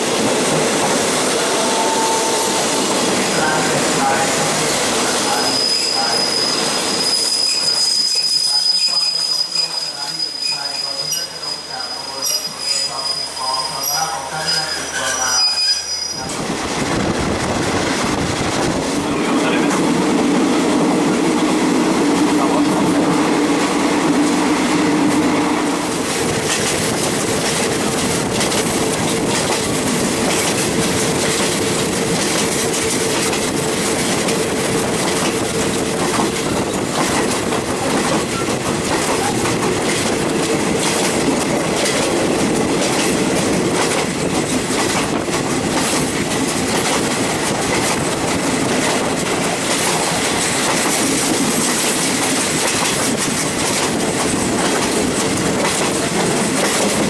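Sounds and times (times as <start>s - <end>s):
train rumbling rush: 0.0s - 57.0s.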